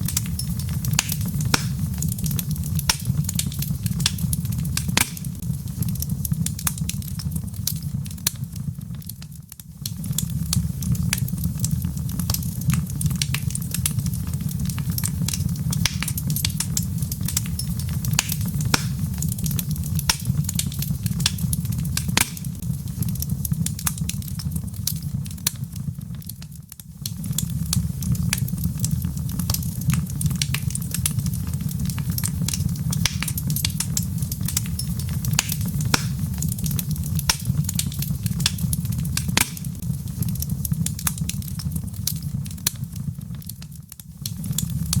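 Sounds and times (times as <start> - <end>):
log fire crackling: 0.0 - 45.0.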